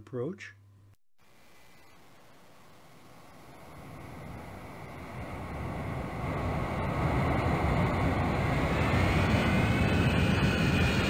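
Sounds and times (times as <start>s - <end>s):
faint engine whine: 1.2s - 11.0s
jet engine rumble: 2.1s - 11.0s.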